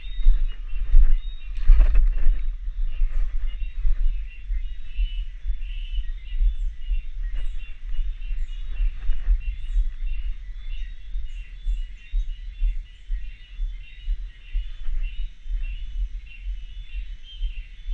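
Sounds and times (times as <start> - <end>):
cicadas calling: 0.0 - 17.9
low microphone rumble: 0.0 - 17.9.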